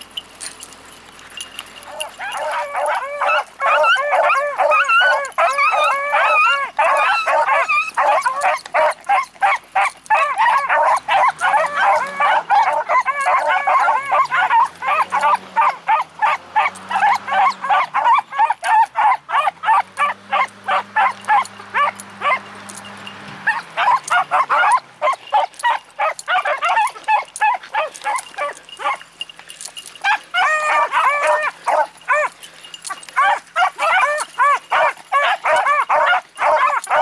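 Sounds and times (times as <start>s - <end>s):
pack of dogs baying and yelping: 0.0s - 37.0s.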